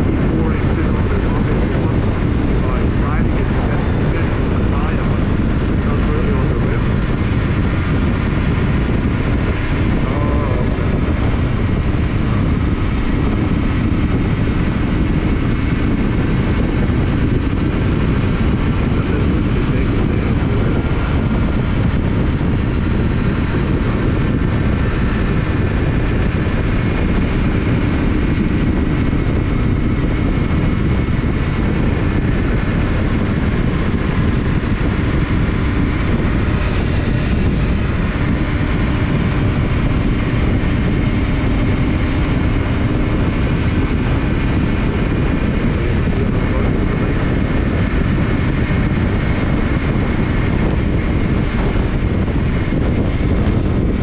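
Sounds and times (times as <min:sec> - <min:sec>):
motorcycle engine cruising: 0:00.0 - 0:54.0
road noise: 0:00.0 - 0:54.0
wind noise: 0:00.0 - 0:54.0.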